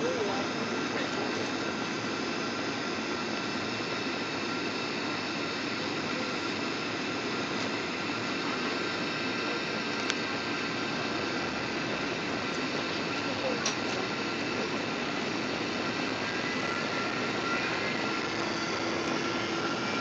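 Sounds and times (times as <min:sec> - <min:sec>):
faint high whine: 0:00.0 - 0:20.0
jet engines and rushing airflow: 0:00.0 - 0:20.0.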